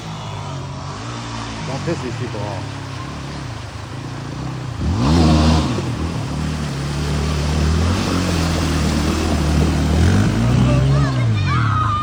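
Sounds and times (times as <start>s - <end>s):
vehicle engine revving: 0.9s - 11.5s.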